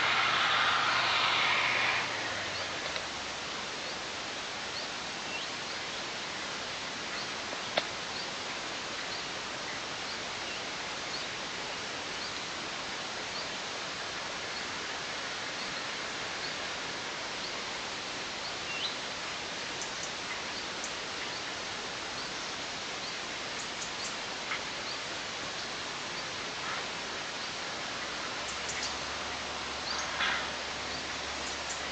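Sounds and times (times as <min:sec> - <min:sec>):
steady outdoor hiss: 0:00.0 - 0:31.9
wind in pine trees: 0:00.0 - 0:31.9.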